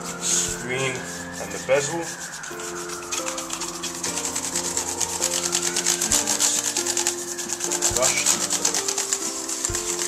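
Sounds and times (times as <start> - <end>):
background music: 0.0 - 10.0
toothbrush scrubbing plastic: 0.0 - 10.0.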